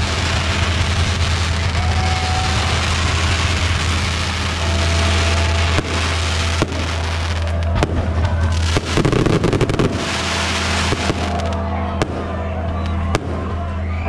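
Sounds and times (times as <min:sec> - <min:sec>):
fireworks hissing: 0:00.0 - 0:11.6.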